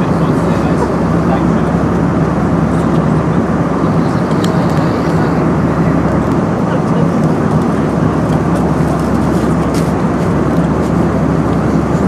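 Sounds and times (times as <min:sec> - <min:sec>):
jet engine hum in airliner cabin: 0:00.0 - 0:12.0.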